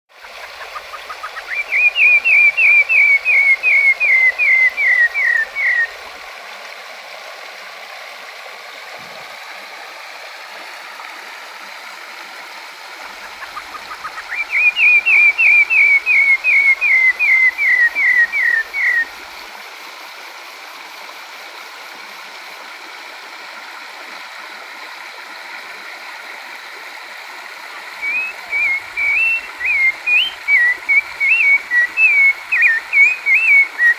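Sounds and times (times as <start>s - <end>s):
running water rushing: 0.1s - 33.9s.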